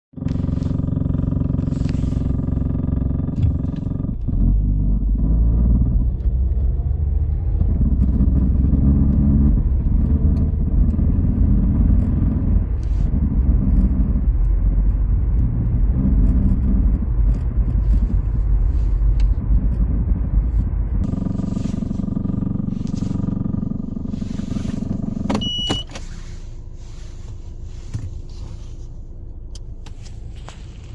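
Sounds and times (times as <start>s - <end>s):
vehicle engine knocking and rumbling: 0.0s - 30.9s.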